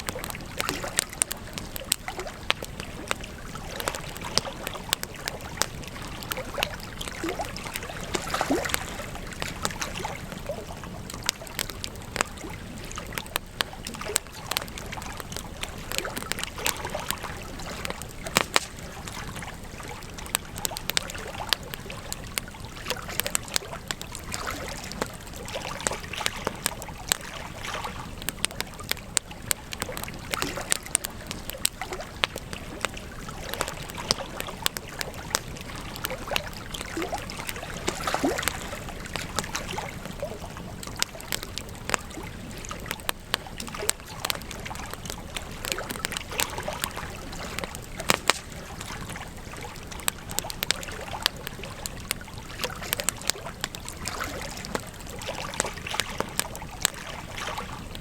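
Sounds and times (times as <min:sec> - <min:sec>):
campfire crackling: 0:00.0 - 0:58.0
hiss of flames: 0:00.0 - 0:58.0.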